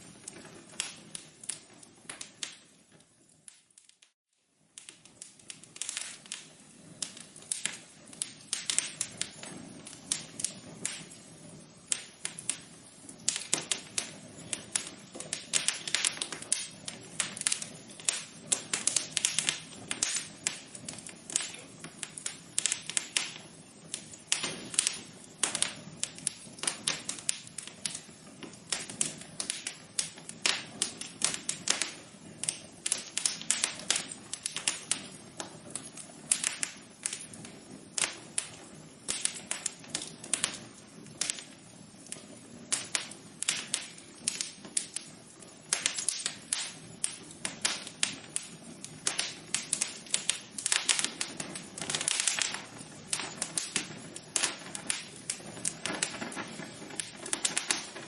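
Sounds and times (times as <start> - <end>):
faint rush of flames: 0.0 - 58.0
wood fire crackling: 0.0 - 58.0.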